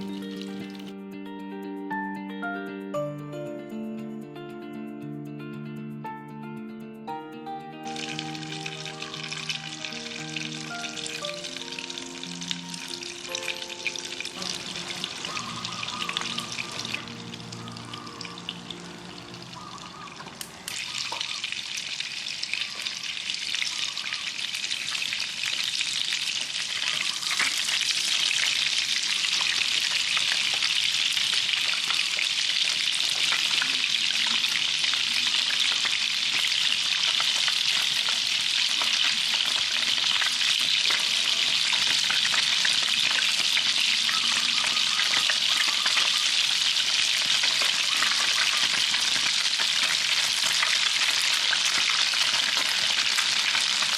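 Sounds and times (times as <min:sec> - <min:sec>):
food sizzling in oil: 0:00.0 - 0:00.9, 0:07.8 - 0:53.9.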